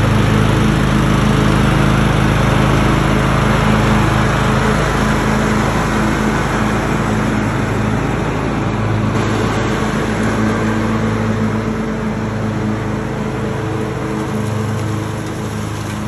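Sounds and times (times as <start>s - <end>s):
lawn tractor engine mowing: 0.0s - 16.0s.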